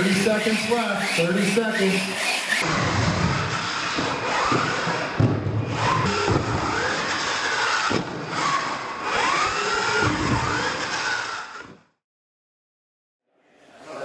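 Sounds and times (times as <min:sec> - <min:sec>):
rc truck motor whining: 0:00.0 - 0:12.0.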